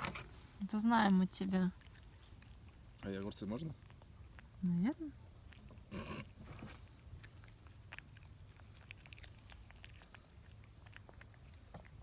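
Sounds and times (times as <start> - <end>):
cat chewing crunchy food: 1.3 - 12.0.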